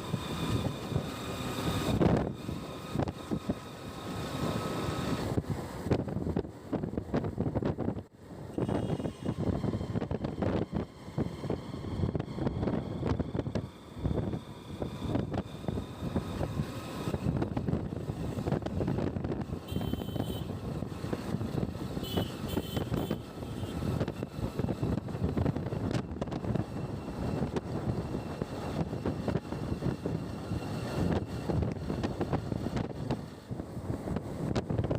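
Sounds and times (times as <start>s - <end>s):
vehicle rumble: 0.0s - 34.9s
wind buffeting microphone: 0.0s - 34.9s.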